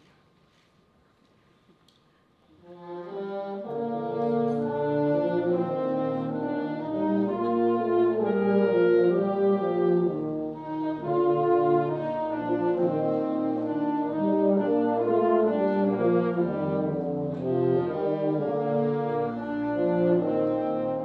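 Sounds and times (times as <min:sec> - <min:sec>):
wind band playing held chords: 0:02.6 - 0:21.0.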